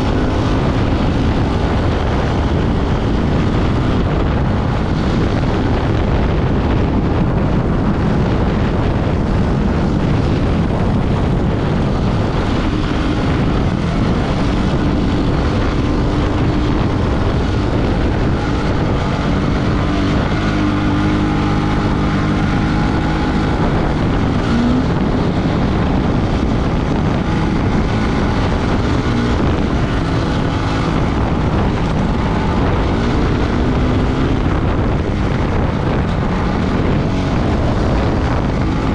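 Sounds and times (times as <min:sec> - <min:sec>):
motorcycle engine running hard: 0:00.0 - 0:38.9
wind buffeting microphone: 0:00.0 - 0:38.9.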